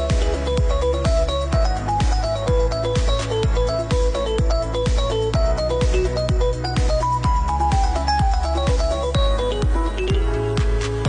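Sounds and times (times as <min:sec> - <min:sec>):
kick-drum beat: 0:00.0 - 0:11.0.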